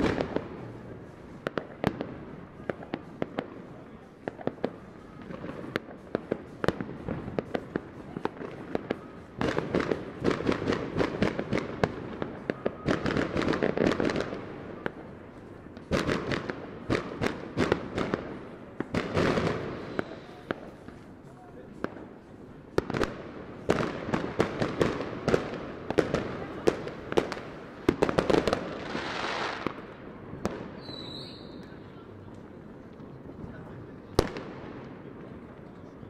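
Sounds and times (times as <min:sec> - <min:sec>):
firework bangs: 0:00.0 - 0:31.8, 0:33.0 - 0:35.5
firecrackers crackling: 0:00.0 - 0:36.0.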